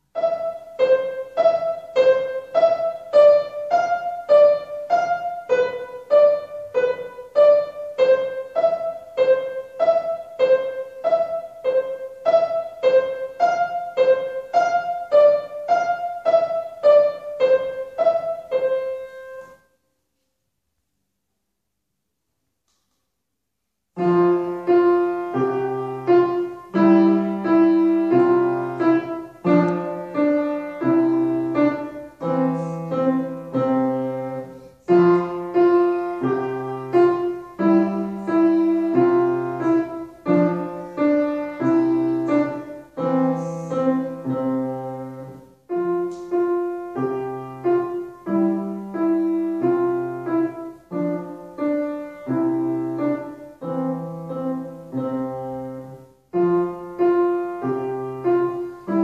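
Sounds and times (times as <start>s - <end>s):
grand piano playing: 0.0s - 19.6s, 24.0s - 59.0s.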